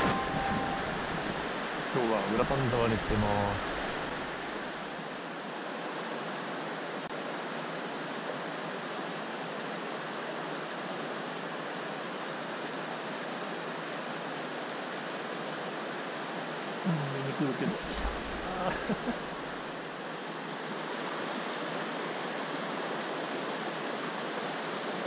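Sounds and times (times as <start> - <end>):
stream flowing over rocks: 0.0 - 25.0.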